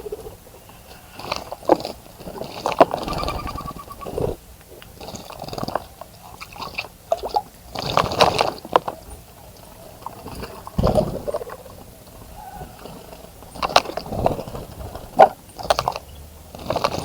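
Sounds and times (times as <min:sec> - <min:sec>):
water splashing in bird bath: 0:00.2 - 0:17.0.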